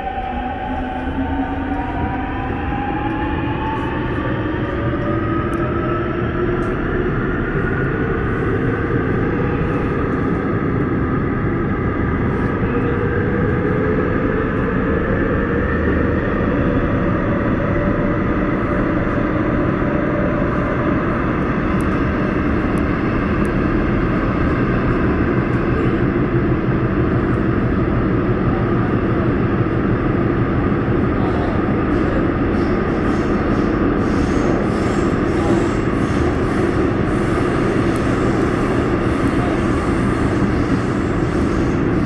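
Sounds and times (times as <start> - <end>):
train whine: 0.0 - 42.0
wheels rumbling on rail: 0.0 - 42.0.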